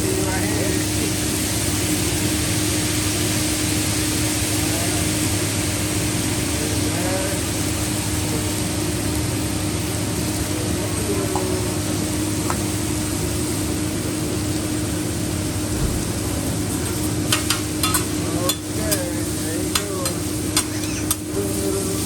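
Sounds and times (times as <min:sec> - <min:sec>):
exhaust hood humming: 0:00.0 - 0:22.0
food sizzling on griddle: 0:00.0 - 0:22.0.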